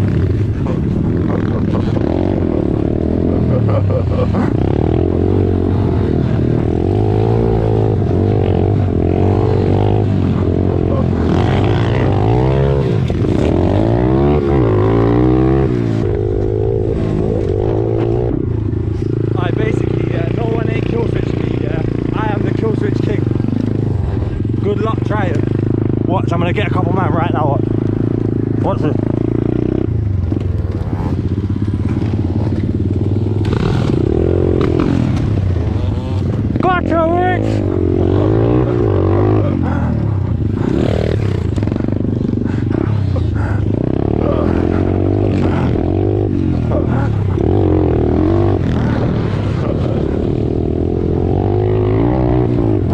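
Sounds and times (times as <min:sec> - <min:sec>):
pit bike engines revving: 0:00.0 - 0:52.9.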